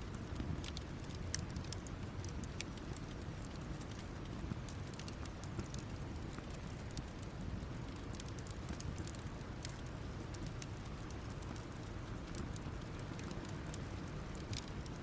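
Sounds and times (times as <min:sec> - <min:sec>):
campfire embers crackling: 0:00.0 - 0:15.0.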